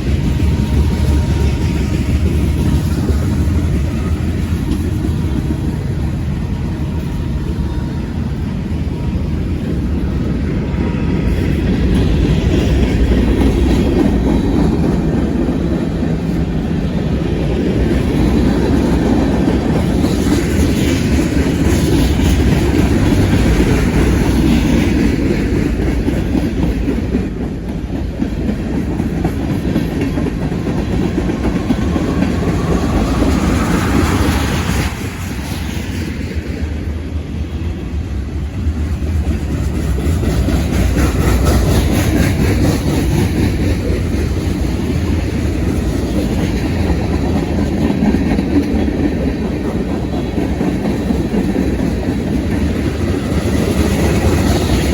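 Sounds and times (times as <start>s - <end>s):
freight train wheels rumbling: 0.0s - 54.9s.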